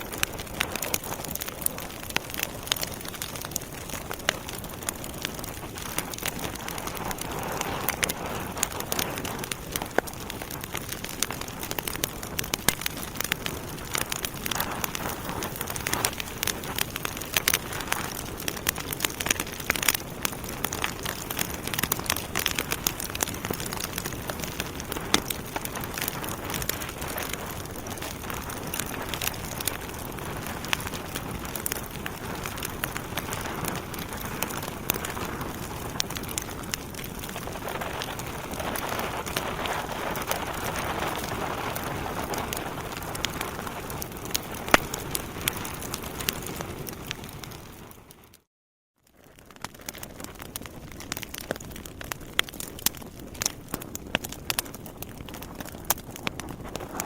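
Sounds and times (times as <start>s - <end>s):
logs crackling in fireplace: 0.0s - 48.5s, 49.1s - 57.0s.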